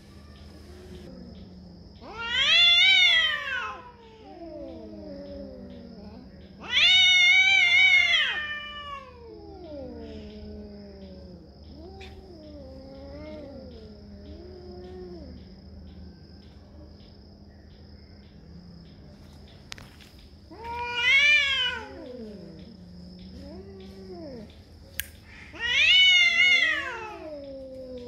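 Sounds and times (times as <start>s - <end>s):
cat low moaning calls: 0.0s - 17.0s, 20.5s - 24.8s, 25.4s - 28.0s
cats yowling: 0.0s - 17.1s, 20.5s - 28.0s.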